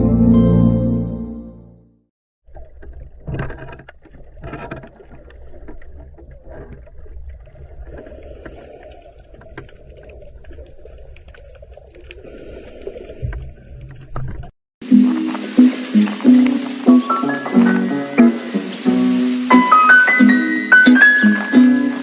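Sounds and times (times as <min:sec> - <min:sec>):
ocean water rumble: 0:02.4 - 0:22.0.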